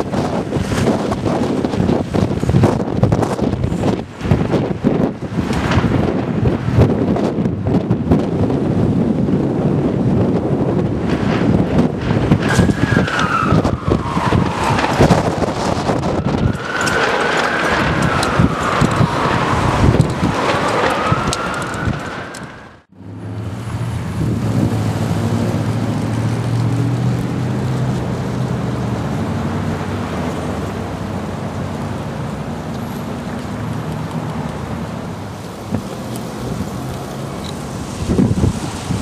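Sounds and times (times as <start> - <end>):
whistling wind tone: 0.0 - 22.9, 23.8 - 39.0
strong wind gusting: 0.0 - 39.0.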